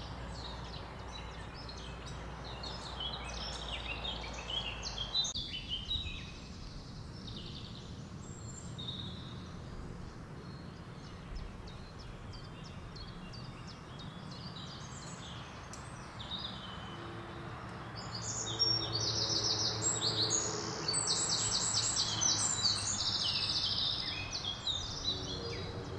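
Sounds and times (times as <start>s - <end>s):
outdoor background noise: 0.0s - 25.9s
songbirds chirping: 0.0s - 25.9s.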